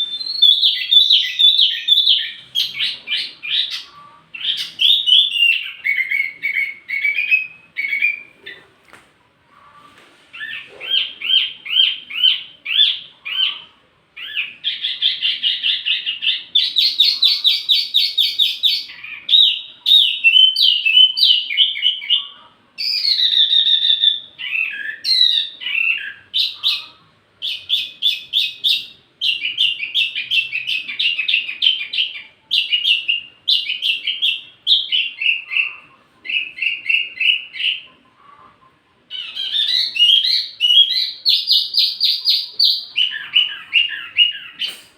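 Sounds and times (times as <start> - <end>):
songbird chirping: 0.0 - 44.9.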